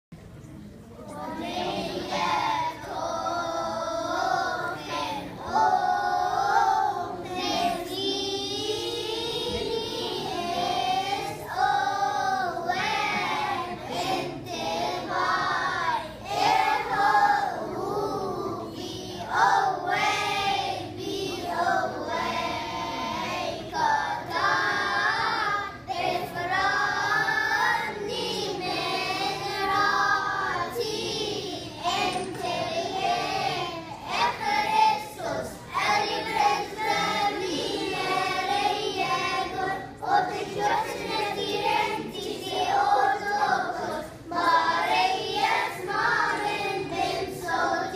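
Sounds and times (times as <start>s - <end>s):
children's choir singing: 0.8s - 47.9s.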